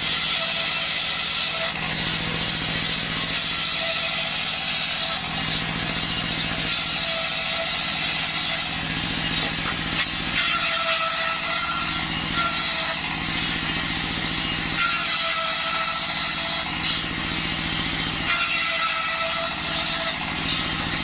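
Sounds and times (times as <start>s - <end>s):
circular saw ripping wood: 0.0s - 21.0s
diesel engine chugging: 0.0s - 21.0s
saw blade whine: 0.0s - 21.0s.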